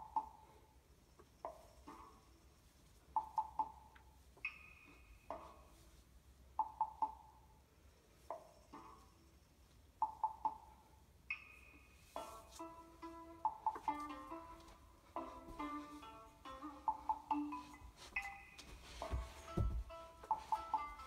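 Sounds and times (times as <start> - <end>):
quiet music with ringing notes: 0.0 - 21.0.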